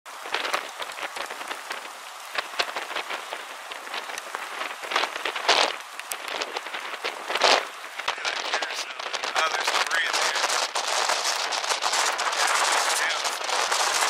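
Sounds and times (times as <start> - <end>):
rain pattering: 0.1 - 14.0.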